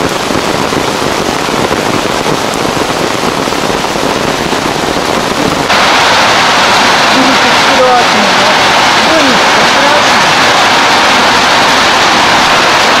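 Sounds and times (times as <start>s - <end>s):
rain drumming on umbrella: 0.0s - 13.0s.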